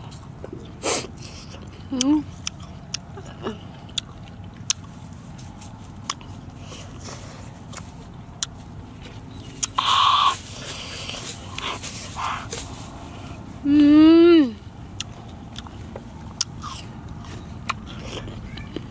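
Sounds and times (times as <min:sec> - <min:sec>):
crunchy chewing: 0:00.0 - 0:13.5, 0:14.9 - 0:18.9.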